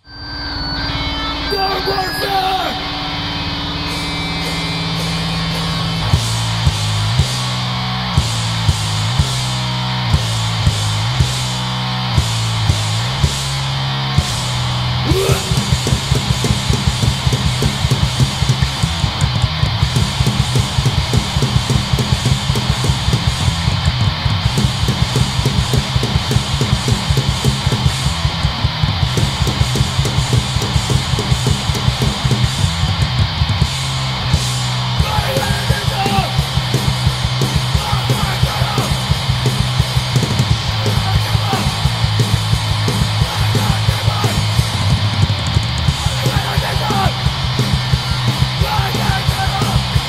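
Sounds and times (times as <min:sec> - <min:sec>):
distorted electric guitar: 0:00.0 - 0:50.0
drum kit fast hits: 0:01.5 - 0:50.0.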